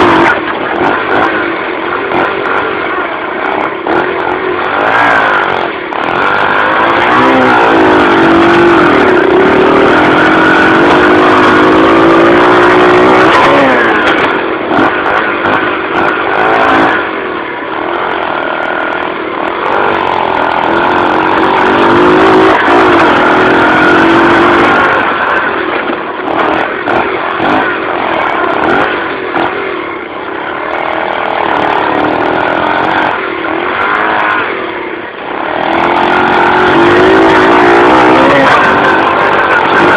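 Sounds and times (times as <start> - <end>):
bike rattling over rough ground: 0.0 - 39.9
dirt bike engine revving: 0.0 - 39.9.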